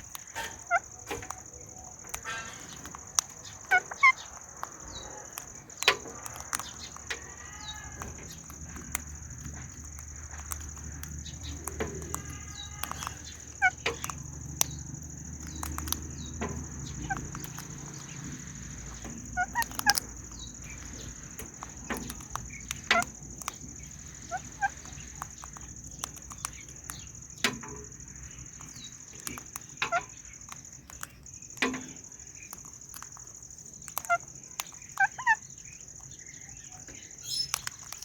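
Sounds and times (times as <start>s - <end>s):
parrots chirping: 0.0s - 38.0s
sharp clicks: 0.0s - 38.0s.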